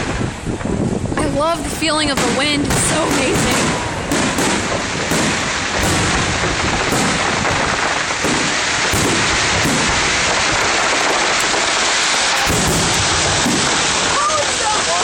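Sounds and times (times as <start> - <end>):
wind on microphone: 0.0 - 14.4
fireworks popping: 0.0 - 15.0.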